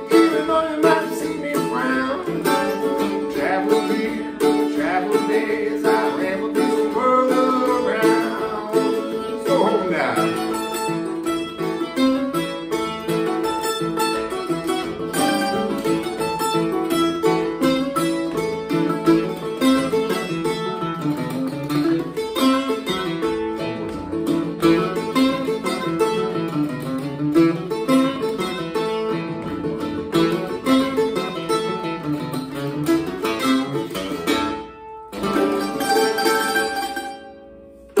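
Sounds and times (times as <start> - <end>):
acoustic guitar strumming: 0.0 - 38.0
mandolin picking: 0.0 - 38.0.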